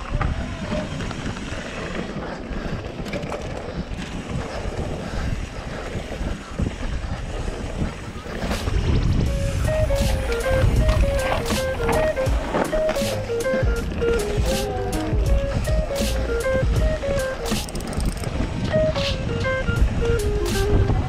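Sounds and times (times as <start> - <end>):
bike tyres rolling on dirt: 0.0 - 21.0
wind buffeting microphone: 0.0 - 21.0.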